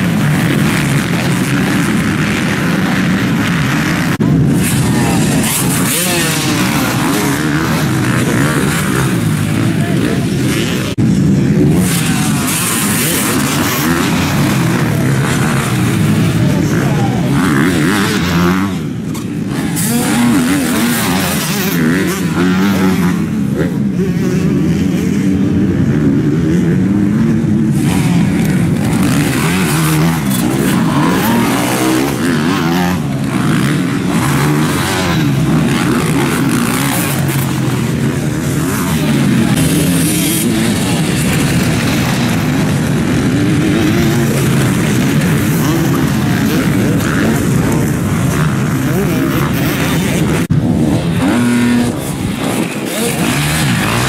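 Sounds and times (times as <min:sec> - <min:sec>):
motocross bikes revving past: 0:00.0 - 0:54.0.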